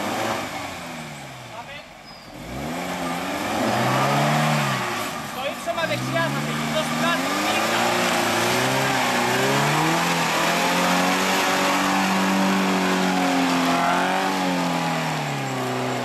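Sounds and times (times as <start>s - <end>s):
engine revving under load: 0.0s - 16.0s.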